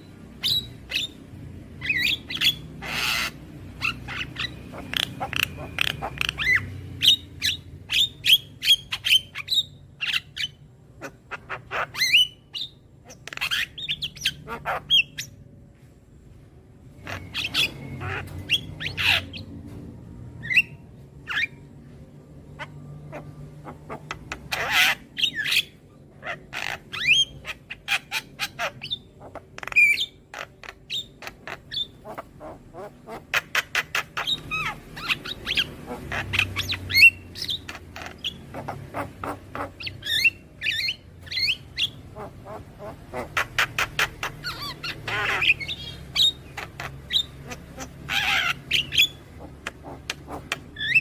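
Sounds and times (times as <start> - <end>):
myna bird squawking and chirping: 0.0 - 15.5, 16.9 - 19.6, 20.4 - 51.0.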